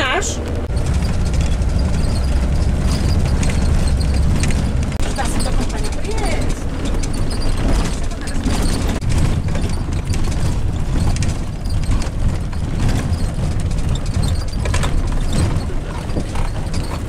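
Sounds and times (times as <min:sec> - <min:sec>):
bus body rattling and knocking: 0:00.0 - 0:17.0
bus engine and tyres rumbling: 0:00.0 - 0:17.0.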